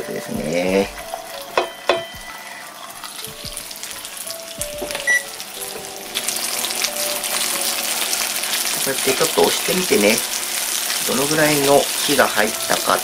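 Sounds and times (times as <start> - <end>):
background music: 0.0 - 13.0
steak sizzling in frying pan: 0.0 - 13.0.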